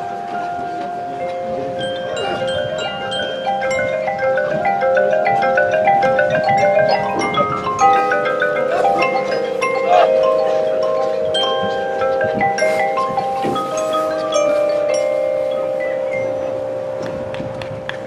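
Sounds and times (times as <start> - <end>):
mallet percussion passage: 0.0 - 18.0.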